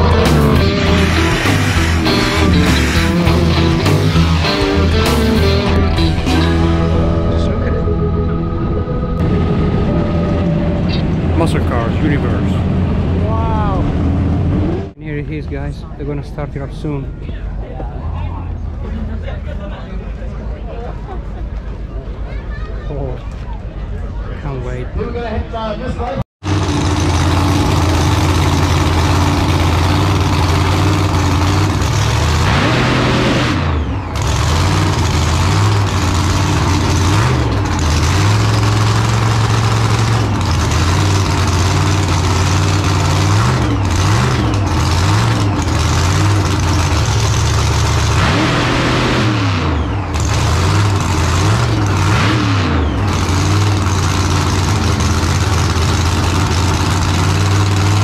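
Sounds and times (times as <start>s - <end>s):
drag car engine revving: 0.0s - 15.0s, 26.4s - 58.0s.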